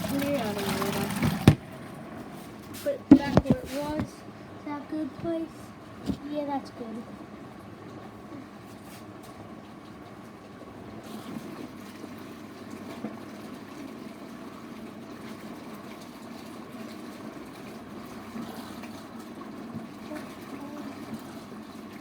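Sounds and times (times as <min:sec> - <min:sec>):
washing machine churning water: 0:00.0 - 0:22.0.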